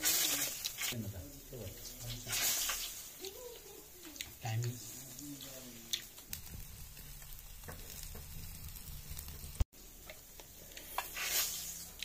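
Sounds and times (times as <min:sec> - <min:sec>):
faint crackling hiss: 0:00.0 - 0:12.0.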